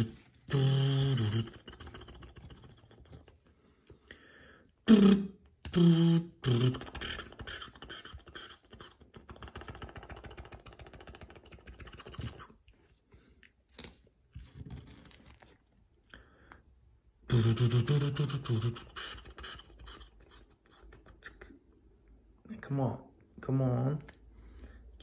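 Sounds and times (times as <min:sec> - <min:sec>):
voiced mouth noises: 0:00.0 - 0:25.0.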